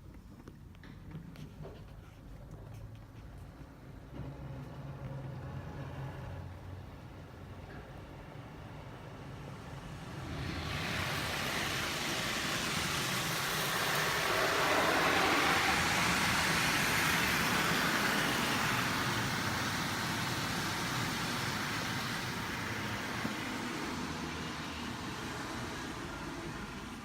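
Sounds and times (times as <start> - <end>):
car wash rushing noise: 4.0 - 27.0.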